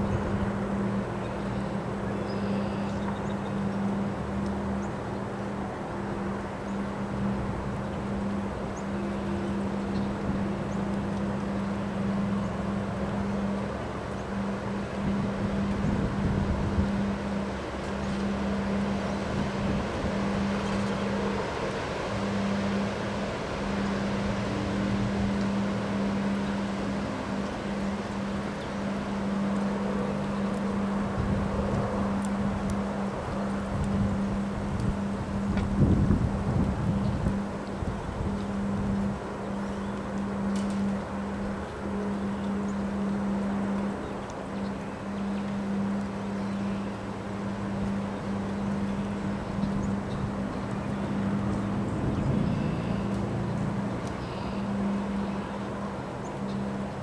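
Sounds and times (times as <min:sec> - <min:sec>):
steady low hum: 0:00.0 - 0:57.0
wind gusting through trees: 0:00.0 - 0:57.0.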